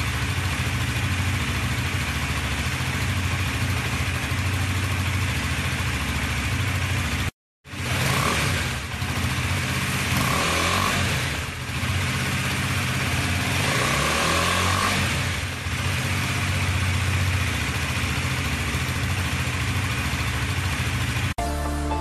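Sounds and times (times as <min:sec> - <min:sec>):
motorcycle engine revving: 0:00.0 - 0:21.4.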